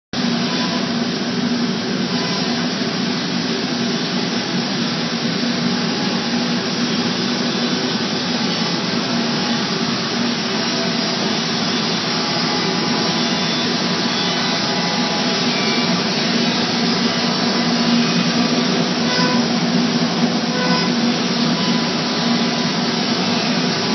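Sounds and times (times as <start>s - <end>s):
router machine whirring: 0.2s - 23.9s.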